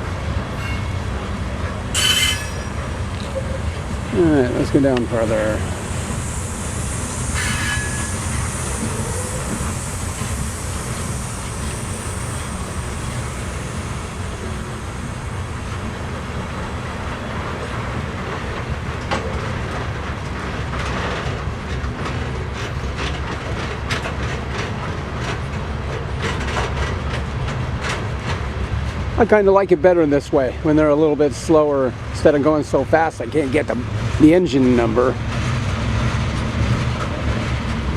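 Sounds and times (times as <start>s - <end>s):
train cars rumbling past: 0.0s - 37.9s.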